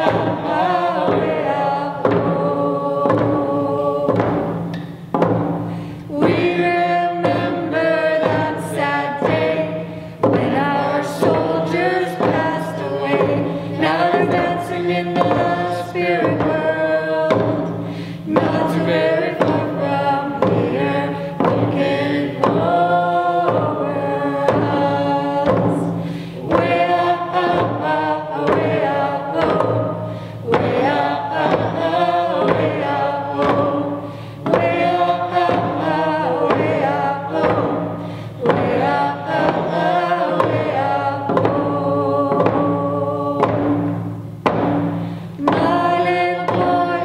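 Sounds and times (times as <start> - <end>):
frame drums beating: 0.0 - 47.0
voices singing together: 0.0 - 47.0.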